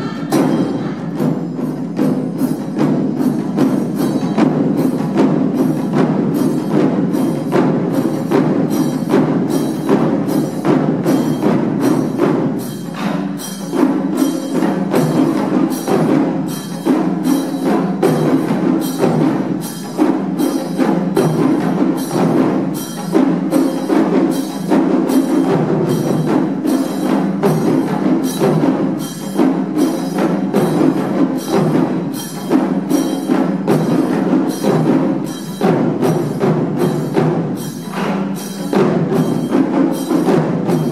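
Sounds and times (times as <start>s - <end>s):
taiko drums beating: 0.0s - 40.9s.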